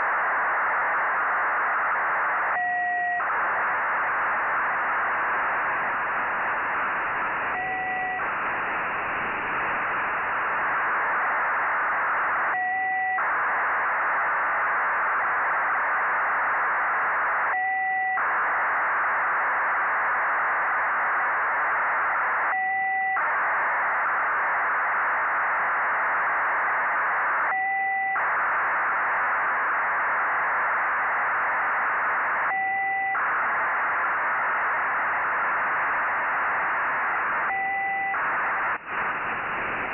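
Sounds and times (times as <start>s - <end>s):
dense data hiss: 0.0s - 39.9s.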